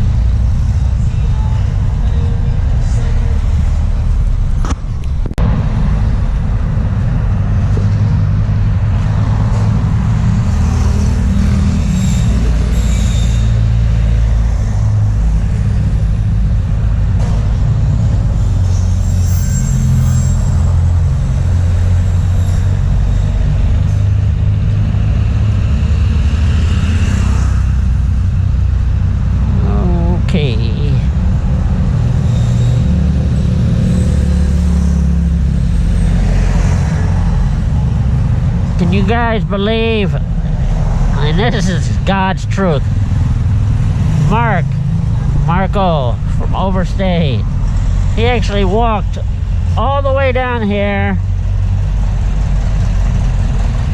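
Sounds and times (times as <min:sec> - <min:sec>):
traffic rumble: 0:00.0 - 0:53.9.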